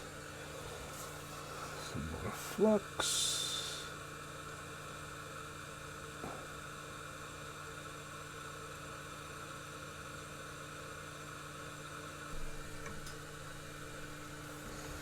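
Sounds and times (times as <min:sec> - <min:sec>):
small fan whirring: 0:00.0 - 0:15.0.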